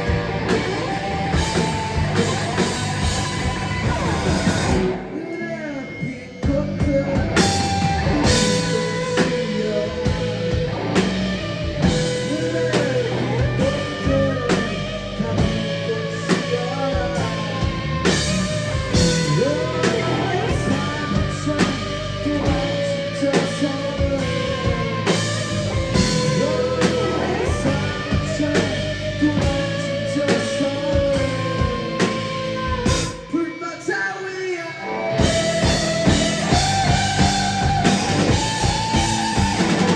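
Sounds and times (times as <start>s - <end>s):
drum kit: 0.0s - 33.4s, 35.1s - 39.9s
electric guitar: 0.0s - 39.9s.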